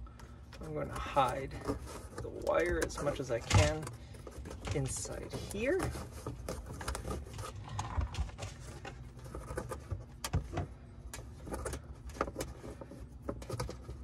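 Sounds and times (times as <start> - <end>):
wire tucked behind plastic trim: 0.1 - 14.0.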